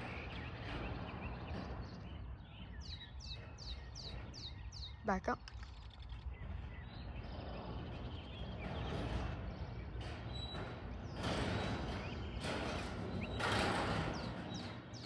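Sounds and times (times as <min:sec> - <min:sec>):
garage door opener rumbling: 0:00.0 - 0:05.0, 0:06.2 - 0:15.0.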